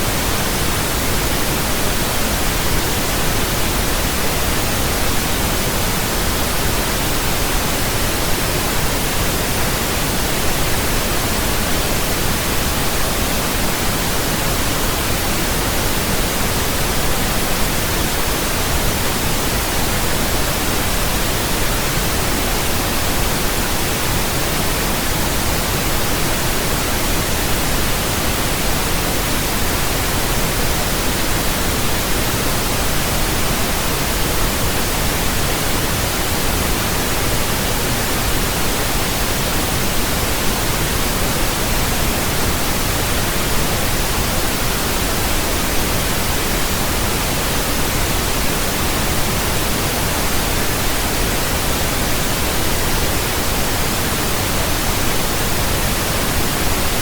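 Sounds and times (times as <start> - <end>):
pink noise hiss: 0.0 - 57.0.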